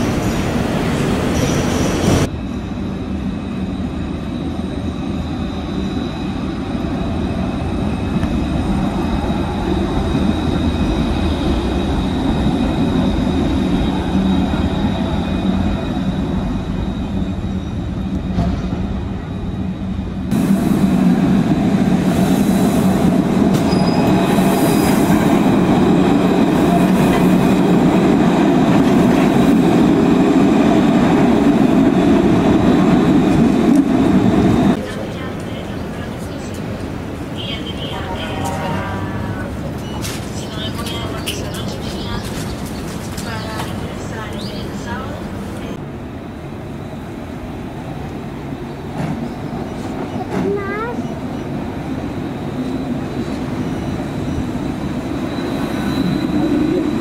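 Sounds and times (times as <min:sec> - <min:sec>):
tram rumbling on track: 0:00.0 - 0:57.0.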